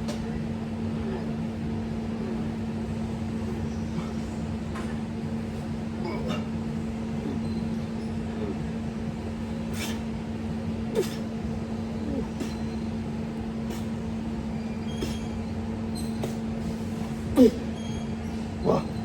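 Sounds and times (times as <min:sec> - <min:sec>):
ventilation hum: 0:00.0 - 0:19.0.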